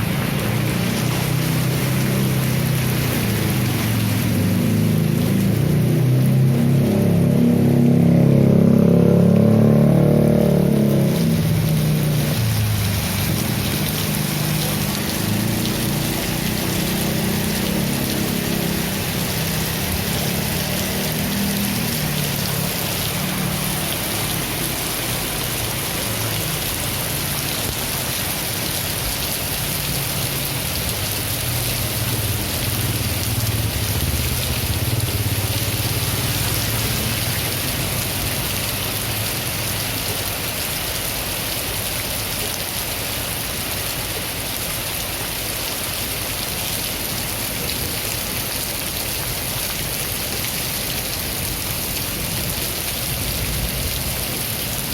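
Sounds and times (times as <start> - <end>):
steady rain hiss: 0.0 - 7.9, 10.5 - 54.9.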